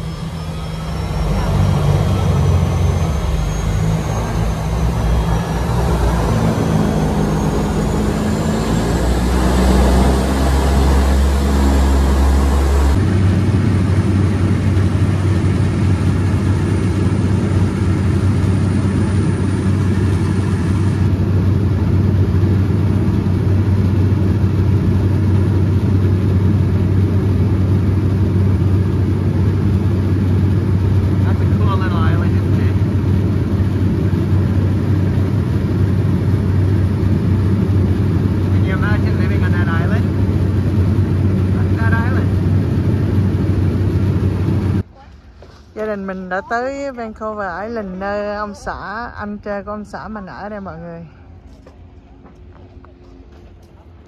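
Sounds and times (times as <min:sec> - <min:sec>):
plane engine and propeller: 0:00.0 - 0:54.0.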